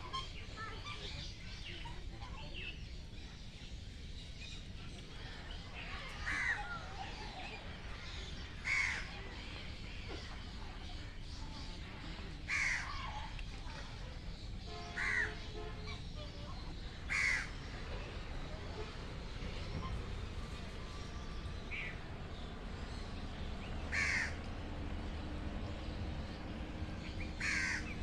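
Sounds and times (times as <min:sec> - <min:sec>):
harsh bird calls: 0:03.9 - 0:13.3, 0:14.2 - 0:28.0.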